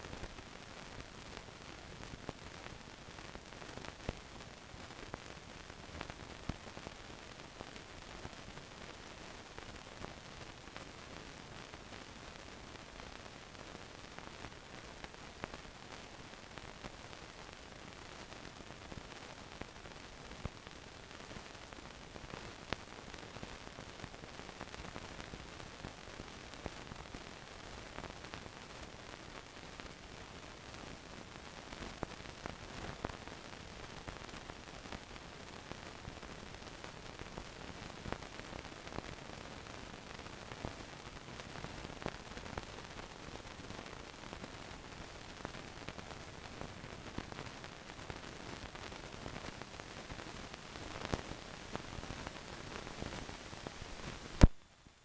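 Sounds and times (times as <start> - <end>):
film soundtrack surface hiss: 0.0 - 55.0.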